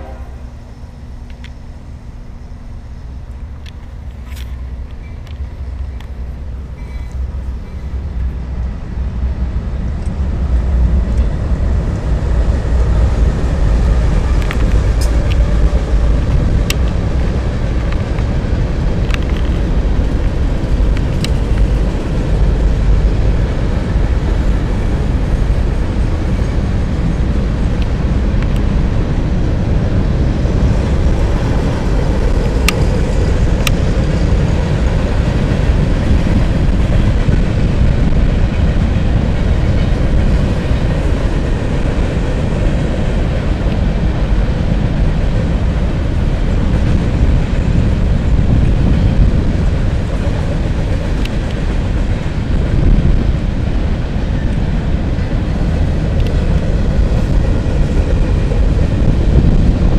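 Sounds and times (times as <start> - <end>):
diesel locomotive engine rumble: 0.0 - 59.9
freight cars rolling: 0.0 - 59.9
sharp clicks of train wheels: 0.0 - 59.9.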